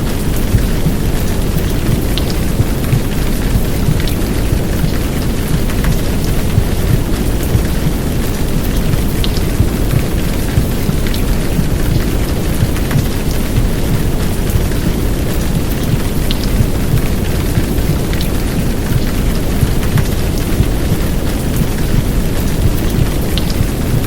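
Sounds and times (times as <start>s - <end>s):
heavy rain hiss: 0.0s - 24.0s.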